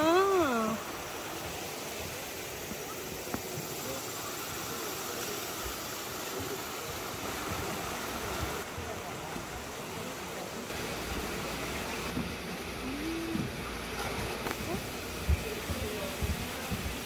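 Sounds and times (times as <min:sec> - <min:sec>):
faint voices: 0:00.0 - 0:17.0
stream rushing over rocks: 0:00.0 - 0:17.0.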